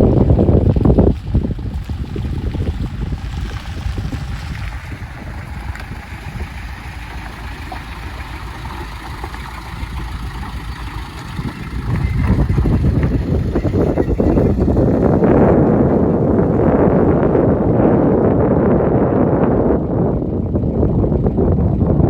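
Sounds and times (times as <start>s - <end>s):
truck diesel engine running: 0.0s - 22.0s
wind buffeting microphone: 0.0s - 22.0s.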